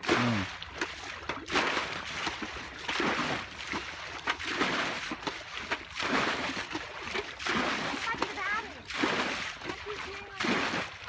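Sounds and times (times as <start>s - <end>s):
plastic pot scooping water: 0.0s - 11.0s
water splashing and sloshing: 0.0s - 11.0s.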